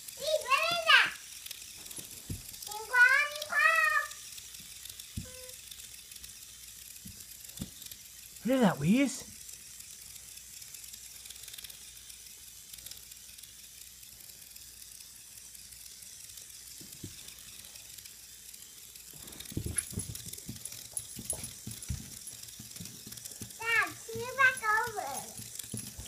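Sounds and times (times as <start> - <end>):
robot bug toy buzzing: 0.0 - 26.0.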